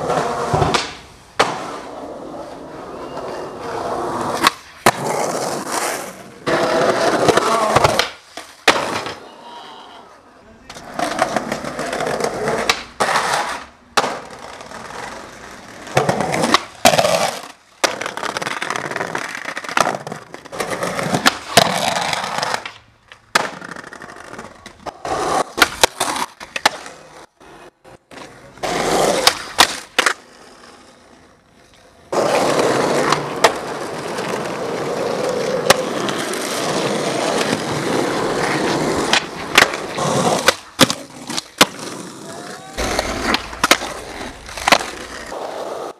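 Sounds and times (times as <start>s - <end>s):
skateboard tail popping and landing: 0.0s - 9.2s, 10.7s - 31.0s, 32.1s - 42.2s, 42.8s - 45.9s
skateboard wheels rolling: 0.0s - 45.9s.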